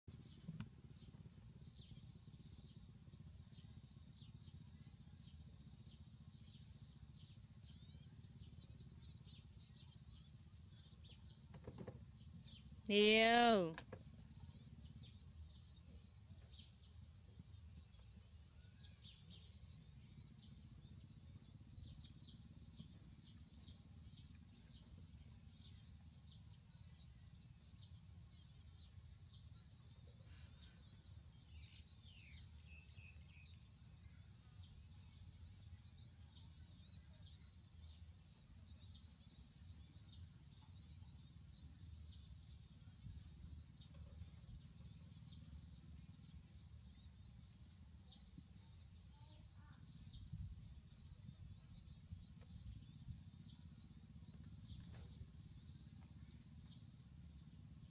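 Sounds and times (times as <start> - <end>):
small birds chirping: 0.1 - 57.9.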